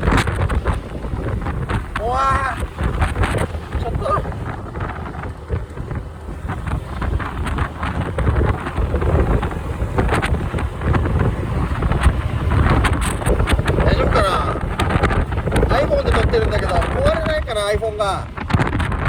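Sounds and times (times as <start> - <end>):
crackles: 0.0 - 19.0
wind buffeting microphone: 0.0 - 19.0.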